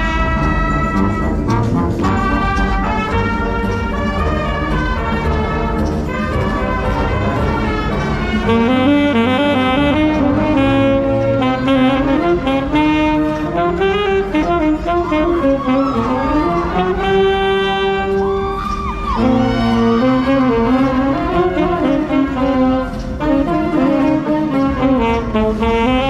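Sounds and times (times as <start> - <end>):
alto saxophone melody: 0.0 - 26.0
wind band playing: 0.0 - 26.0.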